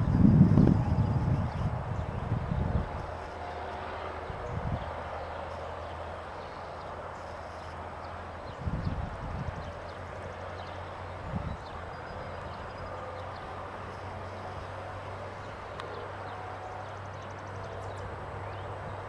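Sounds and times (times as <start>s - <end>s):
distant tractor engine drone: 0.0s - 19.0s.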